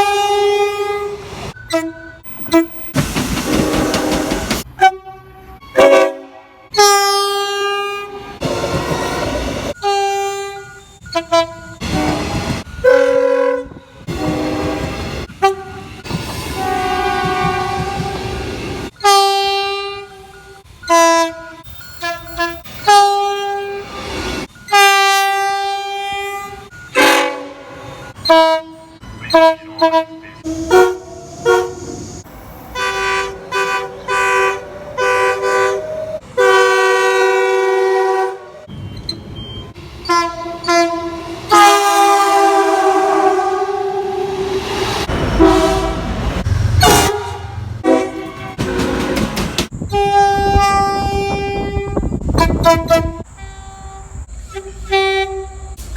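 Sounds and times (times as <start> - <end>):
train horn blasts: 0.0 - 24.0, 24.6 - 32.0, 32.7 - 38.7, 40.0 - 55.8
train passing: 0.0 - 55.9.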